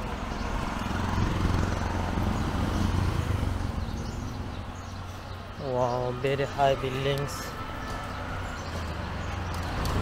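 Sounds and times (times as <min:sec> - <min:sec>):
traffic noise: 0:00.0 - 0:10.0
vehicle engine passing by: 0:00.2 - 0:05.0, 0:06.2 - 0:10.0.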